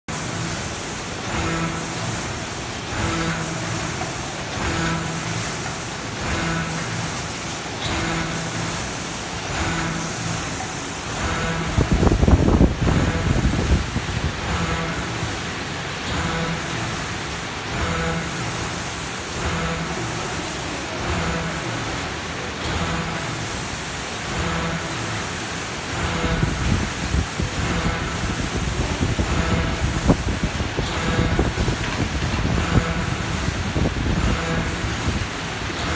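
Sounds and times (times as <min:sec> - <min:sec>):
mechanical noise with hiss: 0:00.1 - 0:35.9
packing machine running: 0:00.1 - 0:35.9.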